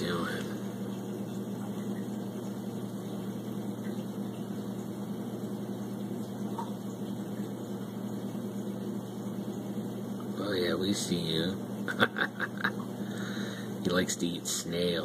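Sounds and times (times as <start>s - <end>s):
aquarium filter humming: 0.0s - 15.0s.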